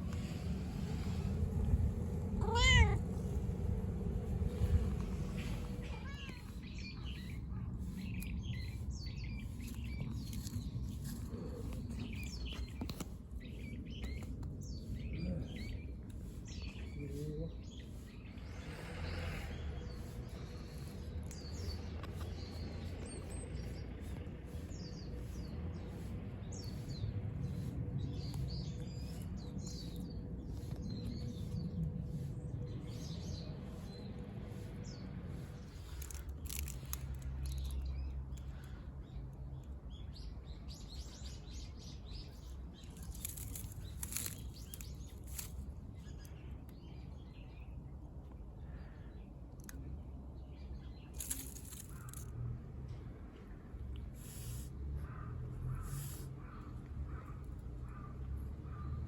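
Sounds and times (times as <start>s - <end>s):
low outdoor rumble: 0.0s - 59.0s
small birds chirping: 0.0s - 59.0s.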